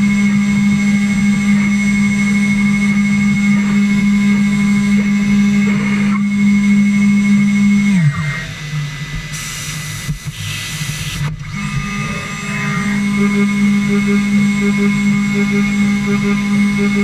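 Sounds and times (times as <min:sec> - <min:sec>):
router spindle humming: 0:00.0 - 0:09.3, 0:10.2 - 0:17.0
high spindle whine: 0:00.0 - 0:17.0.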